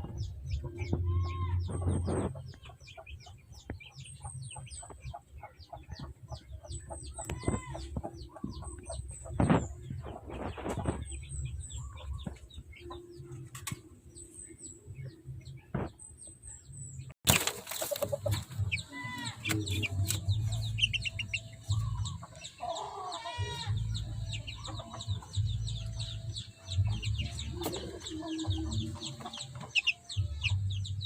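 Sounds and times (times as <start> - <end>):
chicks peeping and clucking: 0.0 - 31.0.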